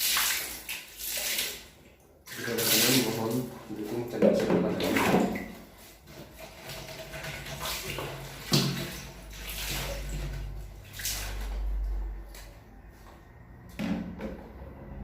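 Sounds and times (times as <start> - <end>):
water sloshing and splashing: 0.0 - 14.2.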